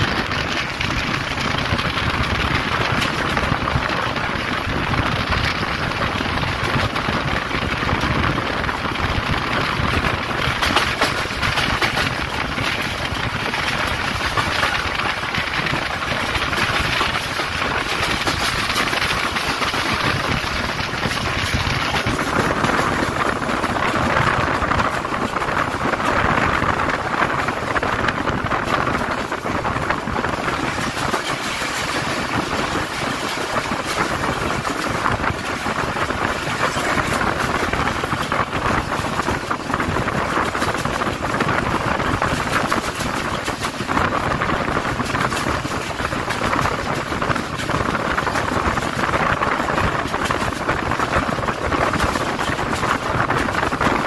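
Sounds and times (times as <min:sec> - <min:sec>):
rushing air: 0:00.0 - 0:54.0
train wheels on rails: 0:00.0 - 0:54.0.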